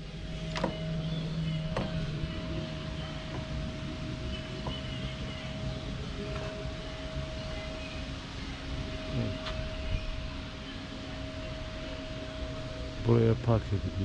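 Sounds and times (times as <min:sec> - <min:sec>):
constant high hum: 0:00.0 - 0:14.0
low steady rumble: 0:00.0 - 0:14.0.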